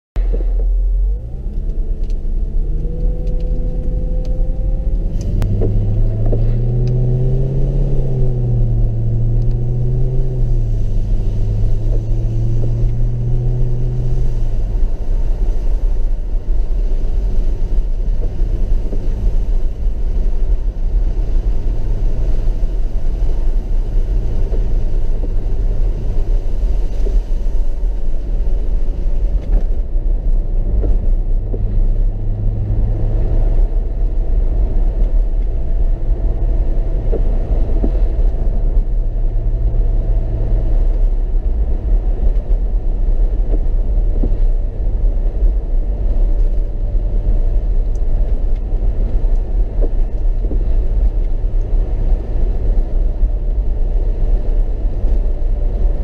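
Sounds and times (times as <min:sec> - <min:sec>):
car engine accelerating: 0:00.2 - 0:56.0
tyre noise on wet road: 0:00.2 - 0:56.0.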